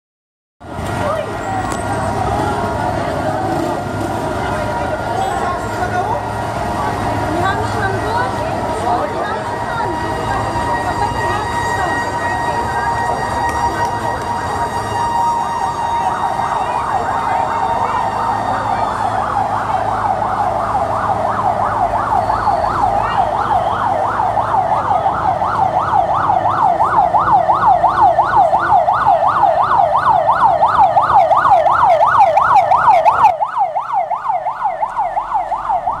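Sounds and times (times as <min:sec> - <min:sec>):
emergency vehicle siren: 0:00.6 - 0:36.0
low street rumble: 0:00.6 - 0:36.0.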